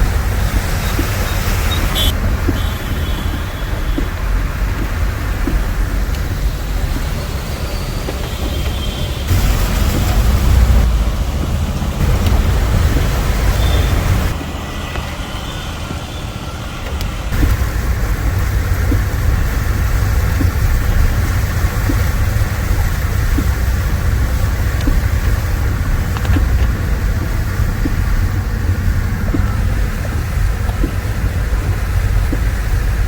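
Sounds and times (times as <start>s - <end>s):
traffic engines rumbling: 0.0s - 33.0s.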